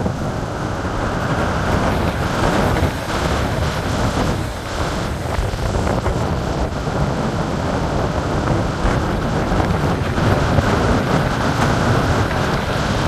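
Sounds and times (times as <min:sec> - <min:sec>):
heavy surf breaking: 0:00.0 - 0:13.0
wind buffeting microphone: 0:00.0 - 0:13.0.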